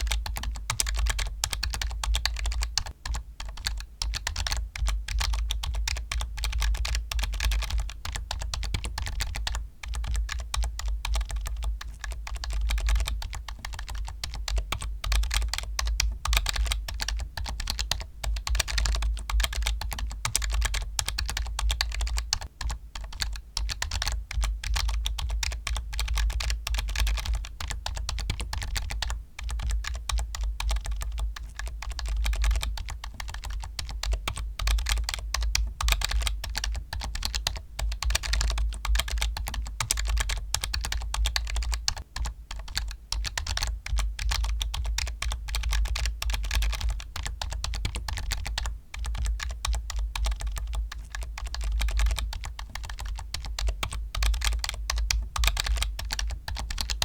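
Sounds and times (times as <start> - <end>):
fast keyboard typing: 0.0 - 57.0.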